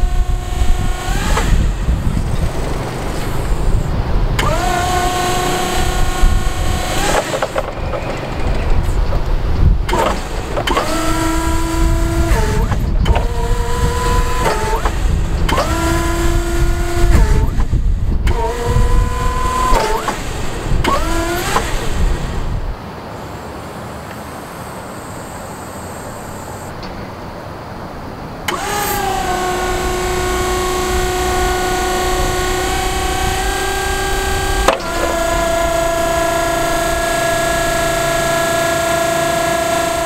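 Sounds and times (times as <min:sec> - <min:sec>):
hydraulic pump motor whining: 0:00.0 - 0:27.0, 0:28.1 - 0:40.0.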